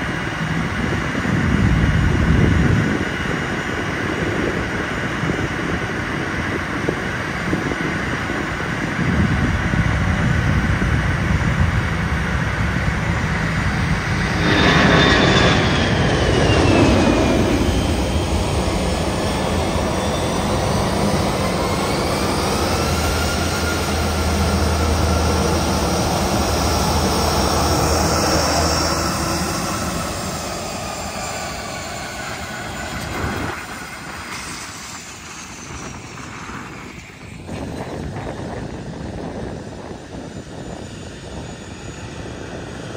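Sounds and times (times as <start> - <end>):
jet engines rumbling: 0.0 - 42.9
turbine whine: 0.0 - 42.9.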